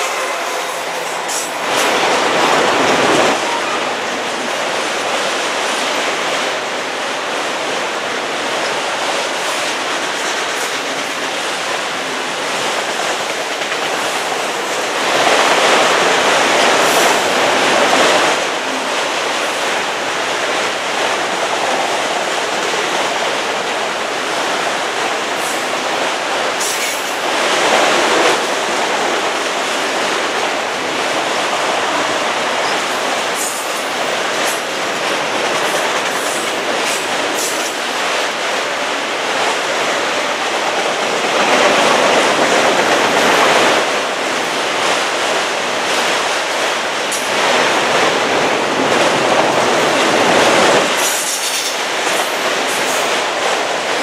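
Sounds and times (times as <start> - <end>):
freight train wheels on rail: 0.0 - 54.0.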